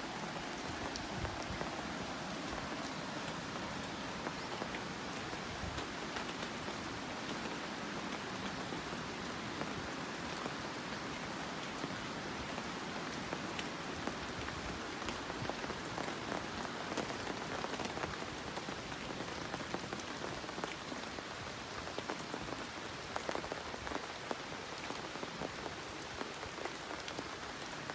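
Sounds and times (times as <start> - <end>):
steady rain hissing: 0.0 - 27.9.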